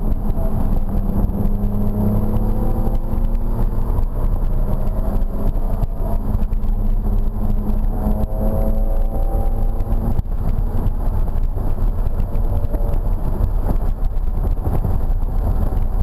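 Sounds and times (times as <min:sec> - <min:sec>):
car engine from inside cabin: 0:00.0 - 0:16.0
tyre noise on wet track: 0:00.0 - 0:16.0.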